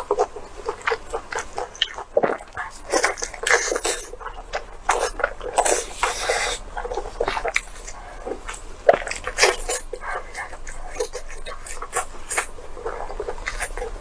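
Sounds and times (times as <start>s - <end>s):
wet chewing and slurping: 0.0s - 14.0s.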